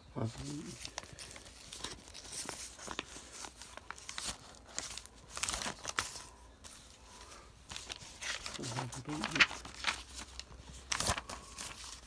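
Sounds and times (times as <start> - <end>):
plastic sleeves crinkling: 0.2 - 12.0.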